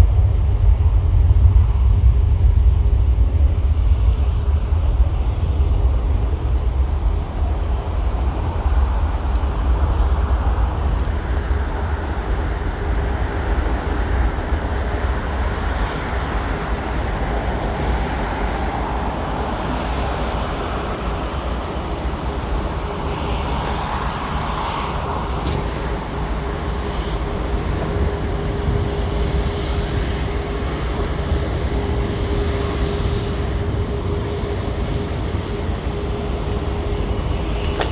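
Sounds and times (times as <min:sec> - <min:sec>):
faint engine whine: 0:00.0 - 0:37.9
jet engine rumble: 0:00.0 - 0:37.9
rushing air: 0:00.0 - 0:37.9.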